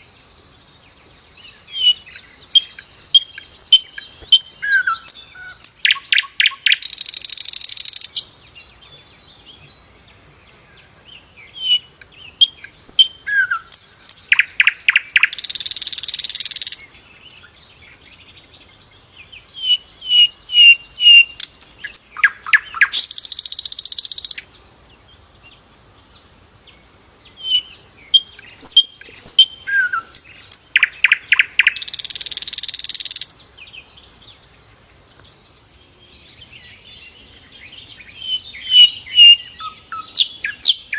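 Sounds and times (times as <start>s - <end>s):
bird song chirps: 0.0s - 40.9s.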